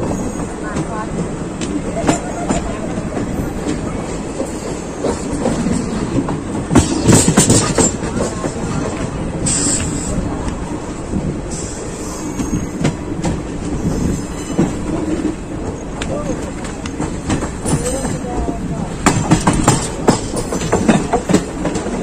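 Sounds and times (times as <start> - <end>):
train wheels clattering: 0.0 - 22.0.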